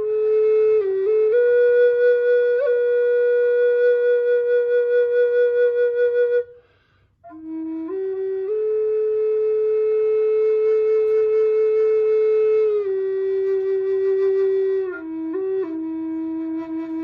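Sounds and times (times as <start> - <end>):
flute playing long notes: 0.0 - 17.0.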